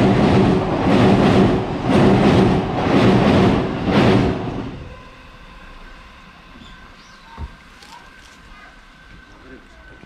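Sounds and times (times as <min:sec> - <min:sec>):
train passing: 0:00.0 - 0:10.0.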